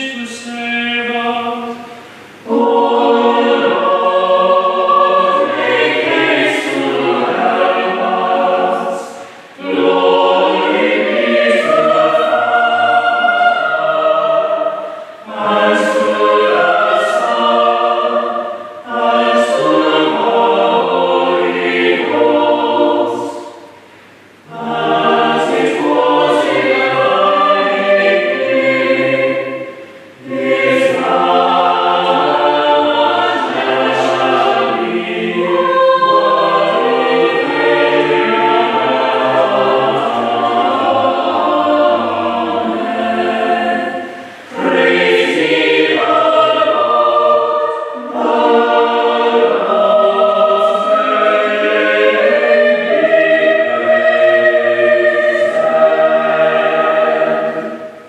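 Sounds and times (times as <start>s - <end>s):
choir singing sacred music: 0.0s - 58.0s.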